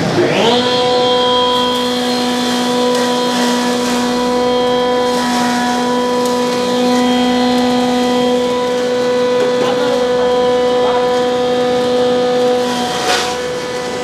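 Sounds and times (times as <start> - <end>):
grinding machine motor humming: 0.0 - 14.0.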